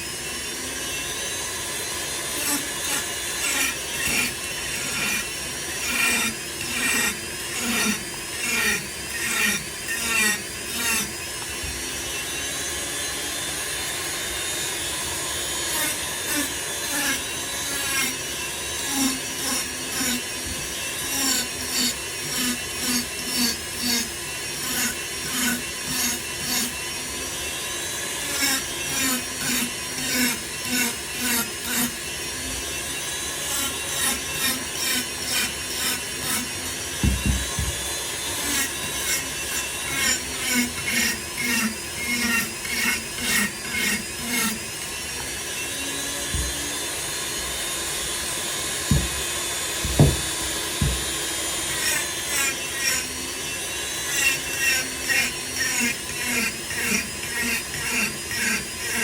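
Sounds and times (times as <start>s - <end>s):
rotary tool grinding wood: 0.0s - 59.0s.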